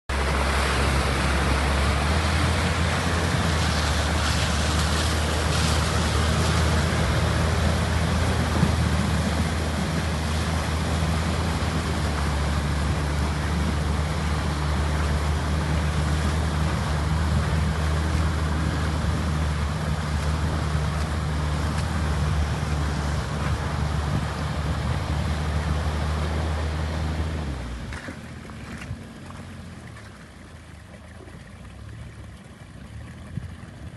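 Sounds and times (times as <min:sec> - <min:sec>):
atv engine running: 0:00.1 - 0:28.2
constant rushing noise: 0:00.1 - 0:33.9.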